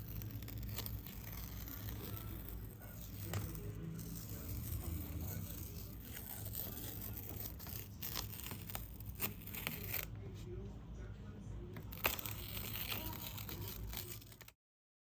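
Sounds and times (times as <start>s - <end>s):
oil pastel scraping on paper: 0.0s - 10.1s, 11.8s - 14.6s.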